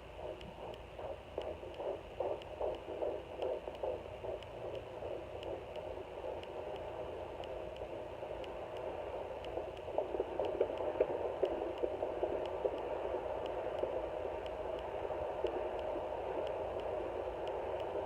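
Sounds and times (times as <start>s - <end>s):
doppler static hiss: 0.0s - 18.0s
fetal heartbeat whooshing pulses: 0.0s - 18.0s.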